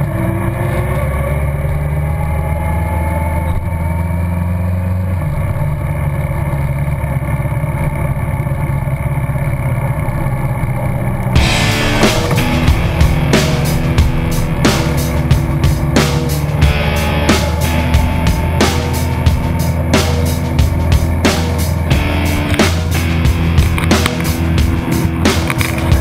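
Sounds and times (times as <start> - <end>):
motorcycle engine running: 1.1 - 26.0.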